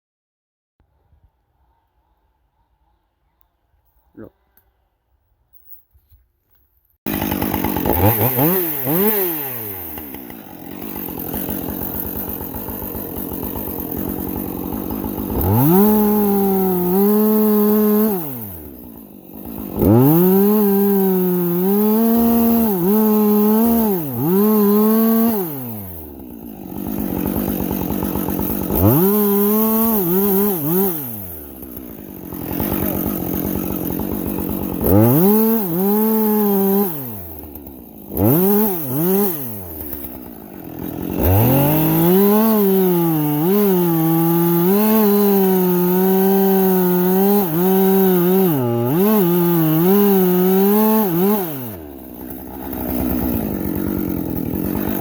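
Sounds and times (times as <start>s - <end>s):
chainsaw cutting wood: 7.0s - 55.0s.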